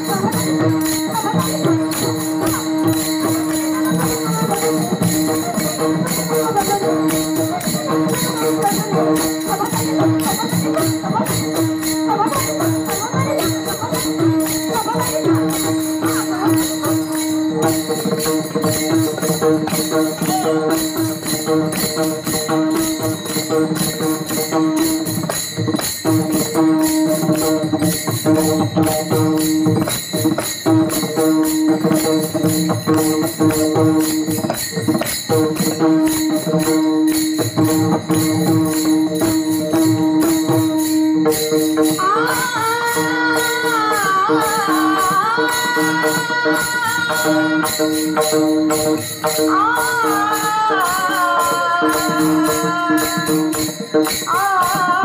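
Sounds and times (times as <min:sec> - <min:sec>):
hand cymbals struck in rhythm: 0:00.0 - 0:55.0.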